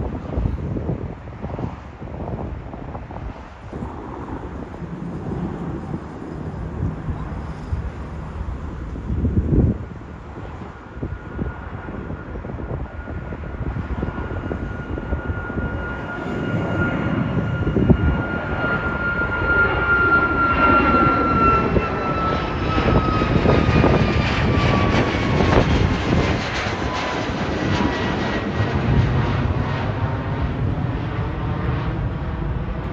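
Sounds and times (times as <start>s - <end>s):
jet engines rumbling past: 0.0s - 32.9s
high turbine whine: 2.2s - 32.9s.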